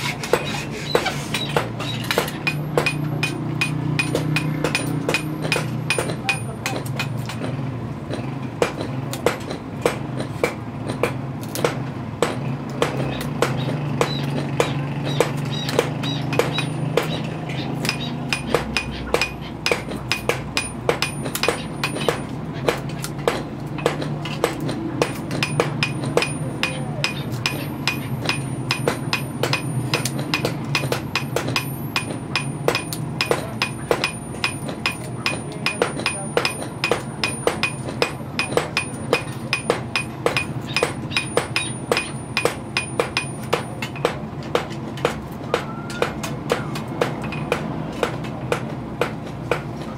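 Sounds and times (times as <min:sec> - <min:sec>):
hammer striking metal: 0:00.2 - 0:07.6, 0:08.6 - 0:49.7.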